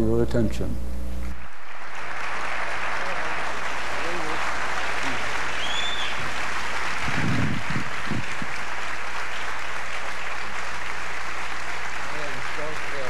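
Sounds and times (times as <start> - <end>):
audience applauding: 1.3 - 13.0.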